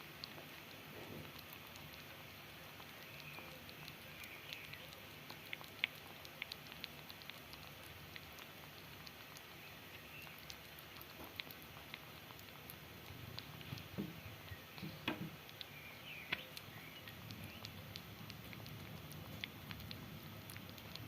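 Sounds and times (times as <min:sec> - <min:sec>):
kitten chewing food: 0:00.0 - 0:21.0.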